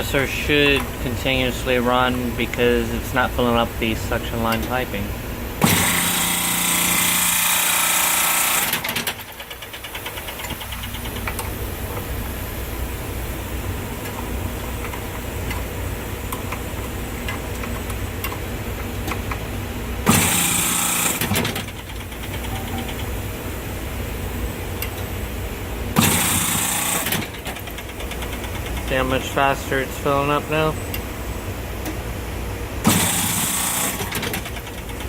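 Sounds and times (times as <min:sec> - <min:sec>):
refrigeration compressor running: 0:00.0 - 0:35.0.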